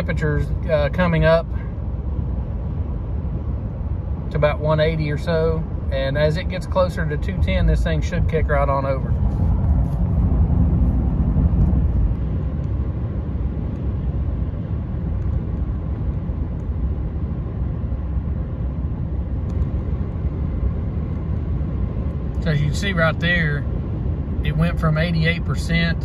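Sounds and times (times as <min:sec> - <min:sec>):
road noise: 0:00.0 - 0:26.0
truck engine rumble: 0:00.0 - 0:26.0.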